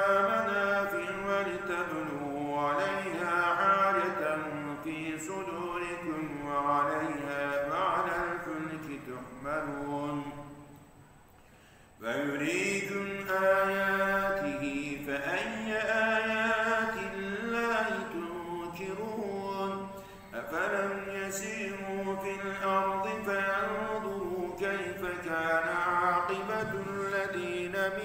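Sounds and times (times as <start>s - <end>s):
man chanting melodically: 0.0s - 10.8s, 12.0s - 28.0s.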